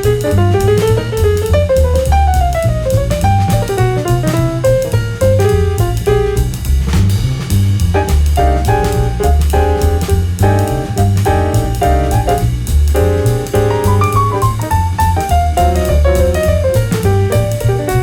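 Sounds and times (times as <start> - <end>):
jazz music: 0.0 - 18.0.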